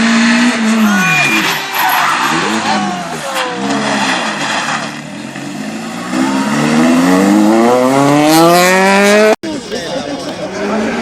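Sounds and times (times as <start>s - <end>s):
rally car engine revving: 0.0s - 9.4s, 10.3s - 11.0s.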